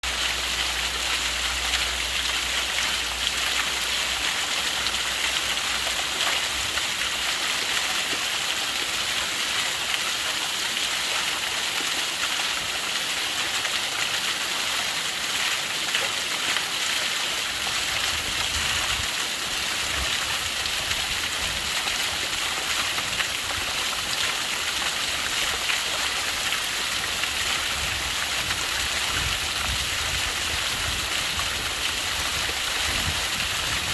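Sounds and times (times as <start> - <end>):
small waterfall splashing: 0.0 - 33.9.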